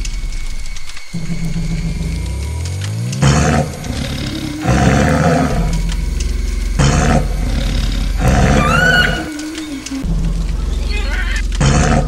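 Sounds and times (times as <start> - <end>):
rising whistle-like call: 0.0 - 11.5
low drone: 0.0 - 12.0
tiger roaring: 1.2 - 12.0.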